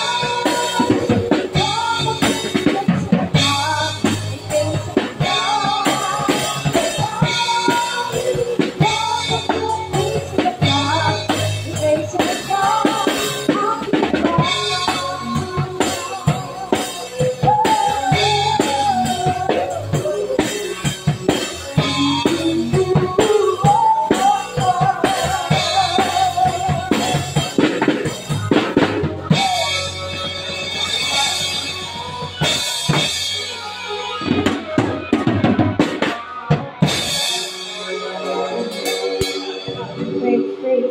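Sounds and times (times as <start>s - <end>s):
drum kit playing steady beat: 0.0s - 40.9s
song melody line: 0.0s - 40.9s.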